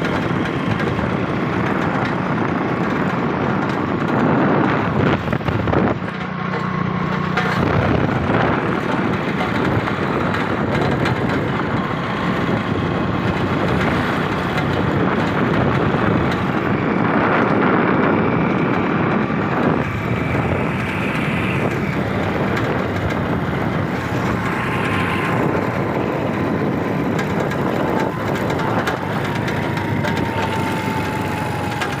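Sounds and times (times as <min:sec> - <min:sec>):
road traffic rumble and hiss: 0:00.0 - 0:32.0.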